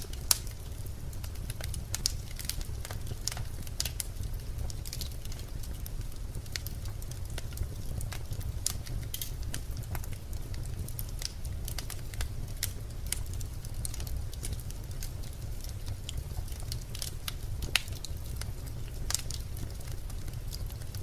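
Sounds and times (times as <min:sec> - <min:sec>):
fire crackling and popping: 0:00.0 - 0:21.0
low rumble of flame: 0:00.0 - 0:21.0.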